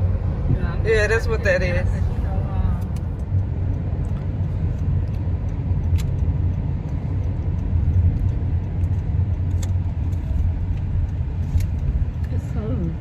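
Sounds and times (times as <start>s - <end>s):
road and tyre rumble in car: 0.0s - 13.0s.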